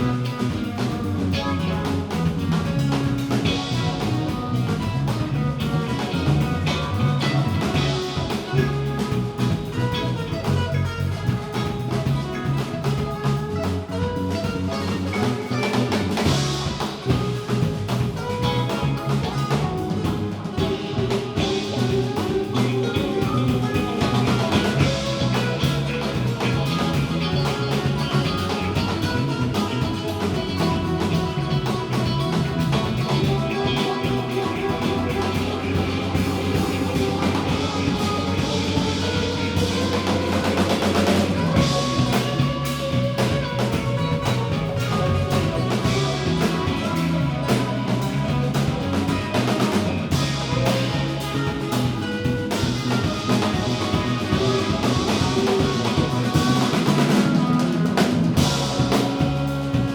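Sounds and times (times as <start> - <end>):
drum kit: 0.0 - 59.9
guitar: 0.0 - 59.9
low bass line: 0.0 - 59.9.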